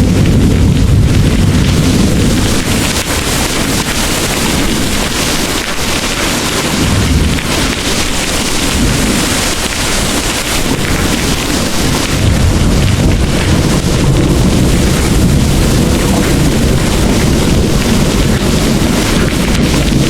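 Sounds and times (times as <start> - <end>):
distant thunder rumbling: 0.0 - 20.0
heavy rain pouring: 0.0 - 20.0.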